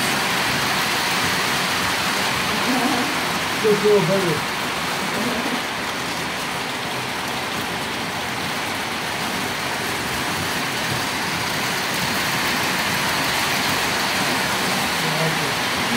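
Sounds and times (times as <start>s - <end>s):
model train rolling: 0.0s - 15.9s.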